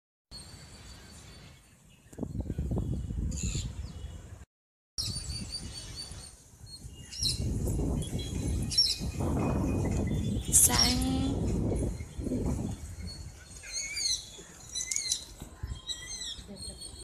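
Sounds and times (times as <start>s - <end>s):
small birds chirping: 0.4s - 4.4s, 5.0s - 17.0s.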